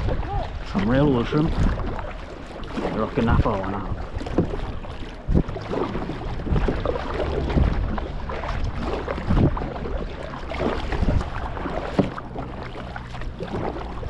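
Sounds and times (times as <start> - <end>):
sea water slapping against hull: 0.0 - 14.0
wind buffeting microphone: 0.0 - 14.0.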